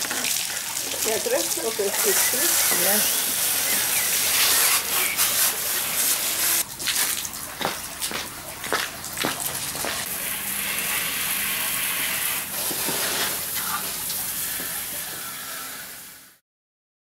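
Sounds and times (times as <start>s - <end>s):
water running: 0.0s - 16.4s.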